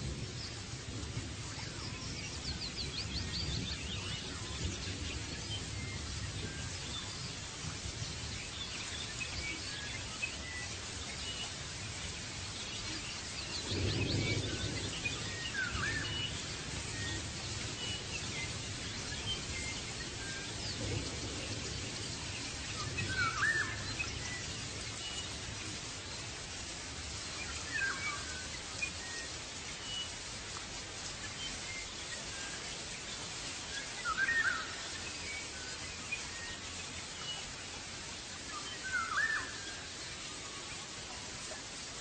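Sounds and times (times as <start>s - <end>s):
steady background hiss: 0.0s - 42.0s.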